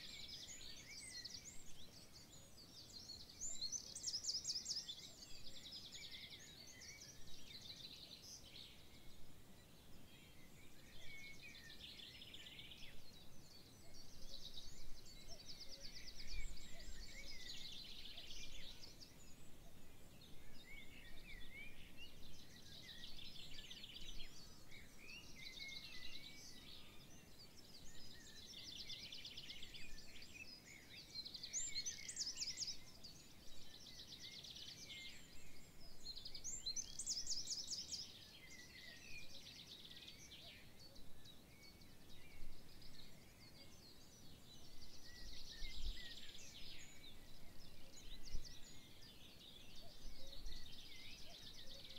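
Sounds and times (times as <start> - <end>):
faint background hiss: 0.0 - 51.9
songbirds singing: 0.0 - 51.9.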